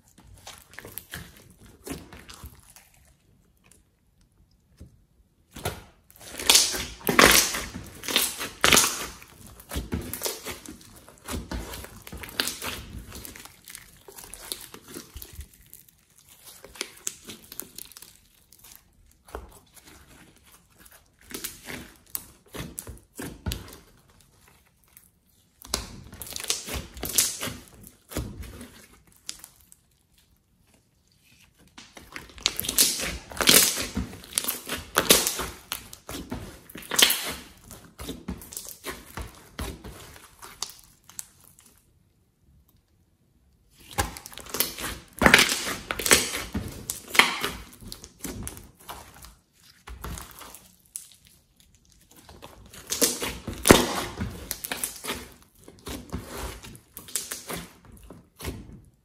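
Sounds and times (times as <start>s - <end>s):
slime squeezed with sticky pops: 4.6s - 30.1s, 31.0s - 41.8s, 43.7s - 58.6s.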